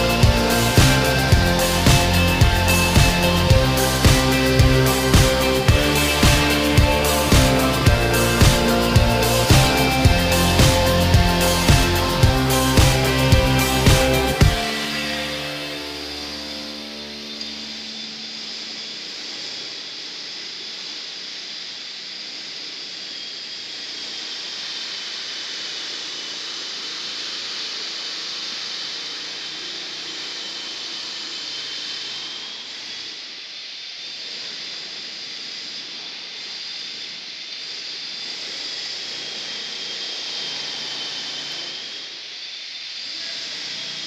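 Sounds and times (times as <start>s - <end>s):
high-pitched workshop hiss: 0.0s - 44.0s.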